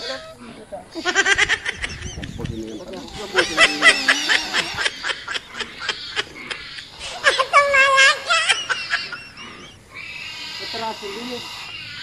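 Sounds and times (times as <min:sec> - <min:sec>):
boar squealing: 0:00.0 - 0:12.0.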